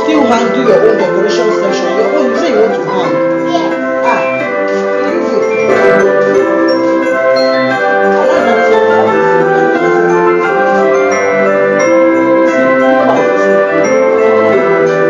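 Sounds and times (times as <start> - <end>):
orchestral tune with mallet percussion: 0.0 - 15.0.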